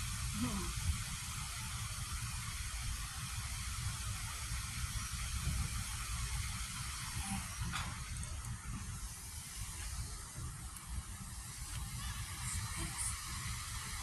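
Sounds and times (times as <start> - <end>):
outdoor hiss: 0.0 - 14.0
wind buffeting microphone: 0.0 - 14.0.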